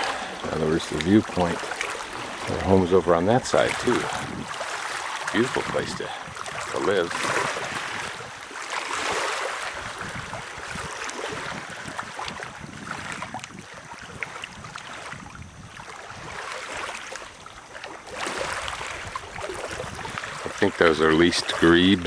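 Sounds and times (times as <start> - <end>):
wind on microphone: 0.0 - 17.5, 18.1 - 22.0
small waves lapping on beach: 0.0 - 22.0.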